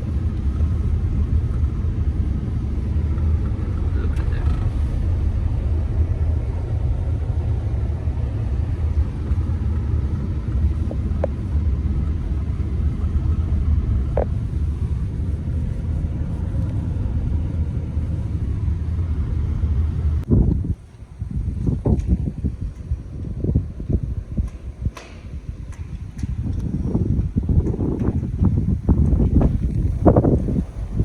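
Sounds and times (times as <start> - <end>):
truck rumbling over snow: 0.0 - 31.0.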